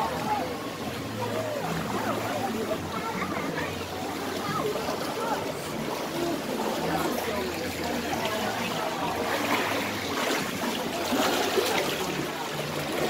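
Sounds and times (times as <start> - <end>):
river water trickling and splashing: 0.0 - 13.0.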